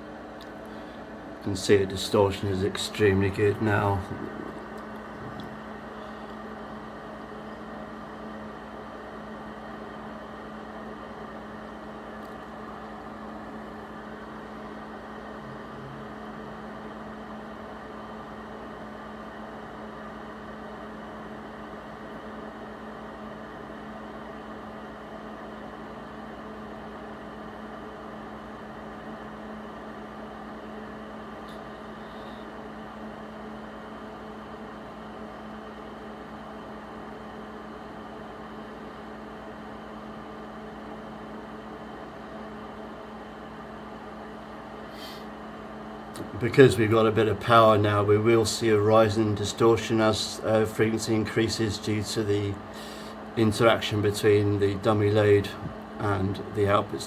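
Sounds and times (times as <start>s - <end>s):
electronic equipment humming: 0.0s - 57.0s.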